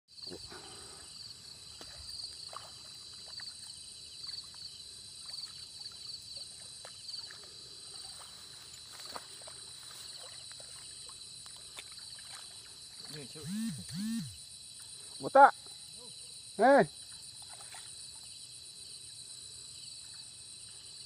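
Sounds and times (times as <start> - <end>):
faint insect chirps: 0.1 - 21.0
insects trilling: 0.1 - 21.0.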